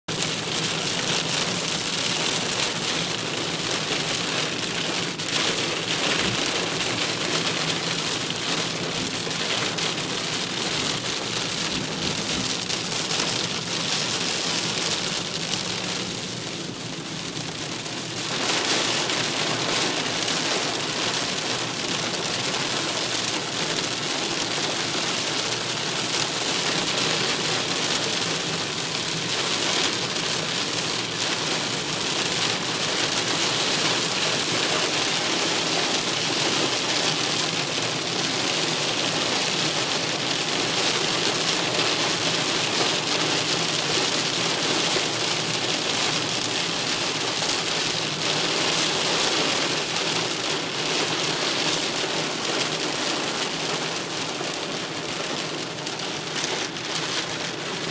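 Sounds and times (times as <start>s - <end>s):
heavy rain on car: 0.0s - 57.9s.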